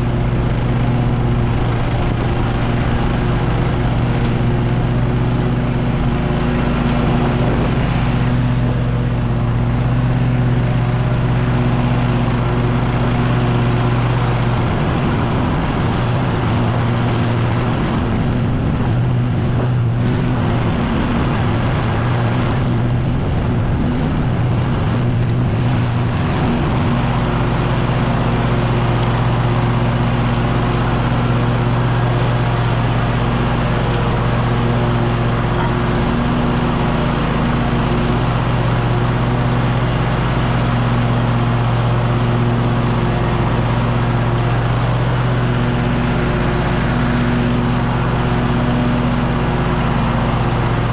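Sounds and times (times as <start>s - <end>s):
leaf blower engine running: 0.0s - 50.9s.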